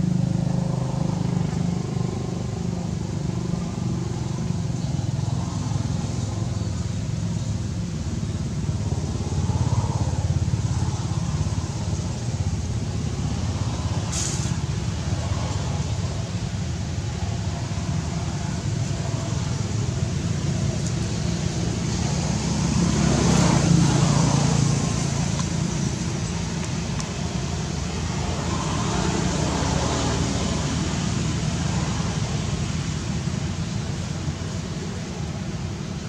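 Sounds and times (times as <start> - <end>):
motor vehicle passing: 0.0 - 36.0
outdoor background hum: 0.0 - 36.0.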